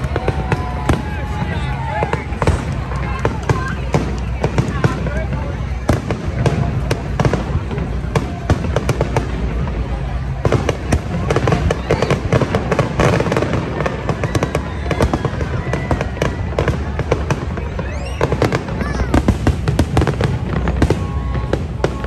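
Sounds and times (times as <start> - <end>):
fireworks bangs and crackles: 0.0 - 22.0
fireworks whistling: 0.0 - 22.0.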